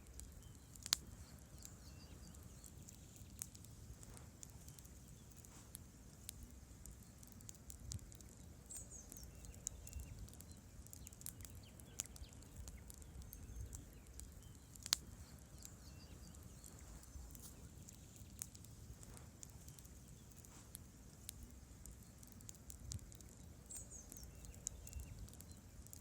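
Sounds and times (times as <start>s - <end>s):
campfire crackling and popping: 0.0s - 26.0s
low rumble of flames: 0.0s - 26.0s.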